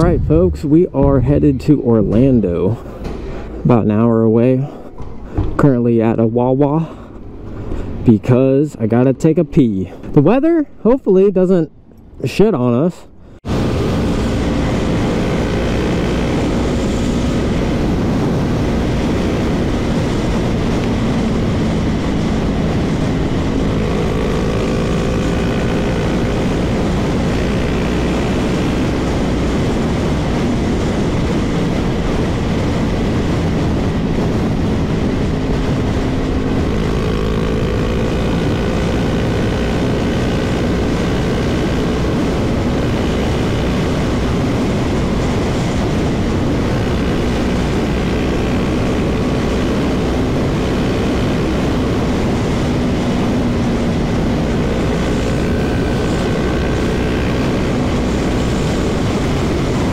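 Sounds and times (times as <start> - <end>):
faint engine hum: 0.0 - 5.8, 13.0 - 59.9
wind and road noise: 0.0 - 59.9.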